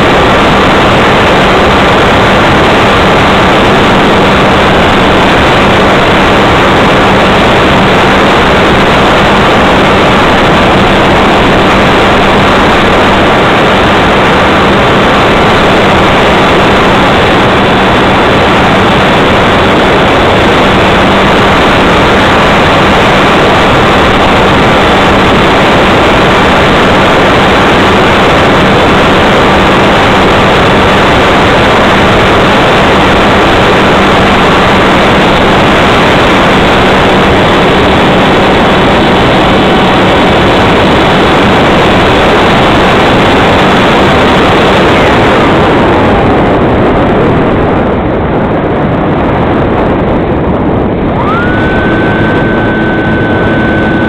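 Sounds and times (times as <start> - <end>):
model airplane motor and propeller: 0.0 - 48.0, 49.2 - 54.0
wind rush over microphone: 0.0 - 54.0.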